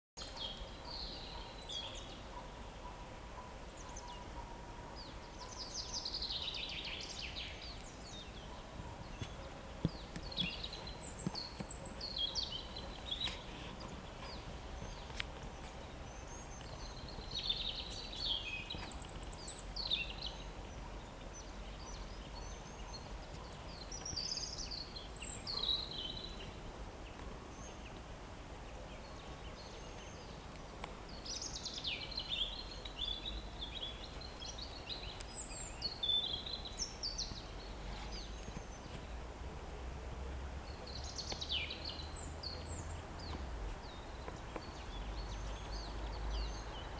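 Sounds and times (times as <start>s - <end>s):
faint steady background noise: 0.2s - 46.9s.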